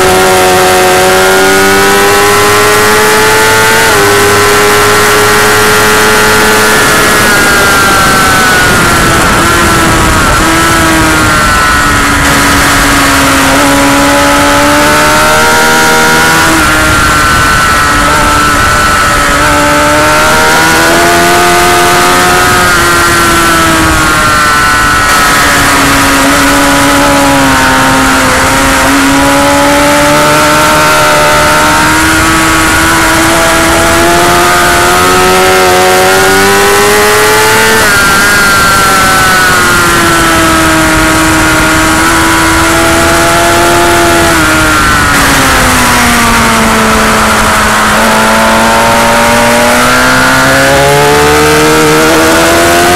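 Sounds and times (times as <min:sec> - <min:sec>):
motorcycle engine revving: 0:00.0 - 0:52.9
wind noise: 0:00.0 - 0:52.9.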